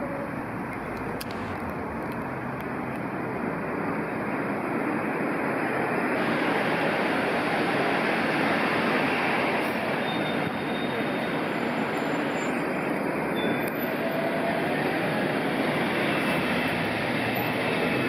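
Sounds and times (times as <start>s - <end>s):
steady rushing noise: 0.2s - 18.0s.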